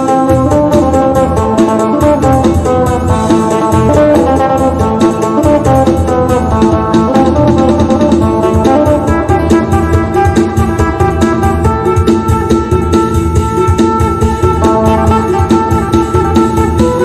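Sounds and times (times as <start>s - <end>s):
bass-heavy beat: 0.0s - 17.0s.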